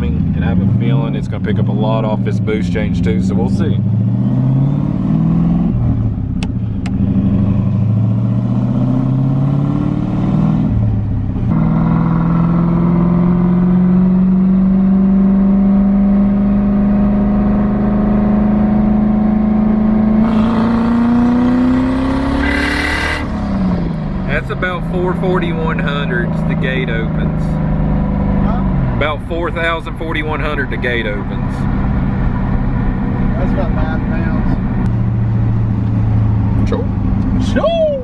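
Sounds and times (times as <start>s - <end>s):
car engine accelerating hard: 0.0s - 37.9s.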